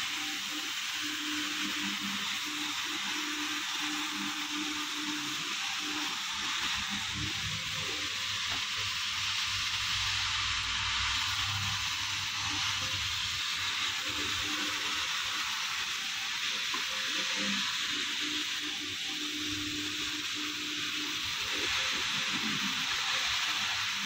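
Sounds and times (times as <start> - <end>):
floor-cleaning machine running: 0.0 - 24.0.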